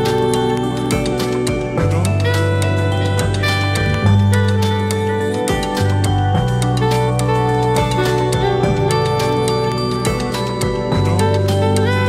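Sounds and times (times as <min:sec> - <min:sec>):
melodic music over steady beat: 0:00.0 - 0:12.0.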